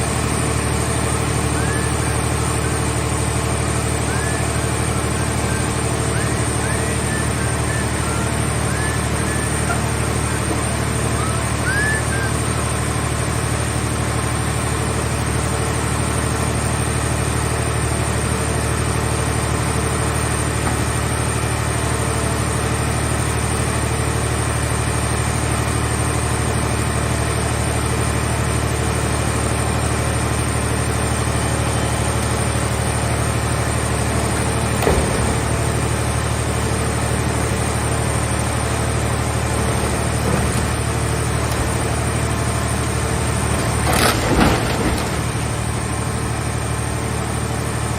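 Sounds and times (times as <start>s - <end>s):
baler engine running: 0.0s - 47.9s.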